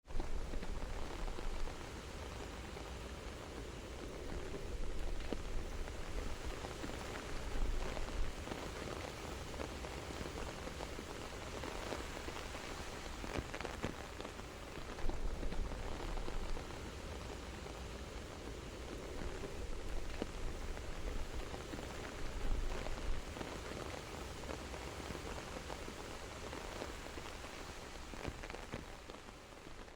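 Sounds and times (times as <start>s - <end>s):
rain on an umbrella: 0.0s - 29.9s.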